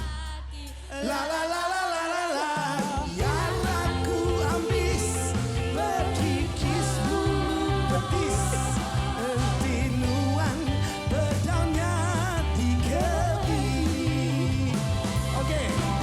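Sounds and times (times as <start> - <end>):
person singing: 0.0 - 16.0
bass line: 3.2 - 16.0.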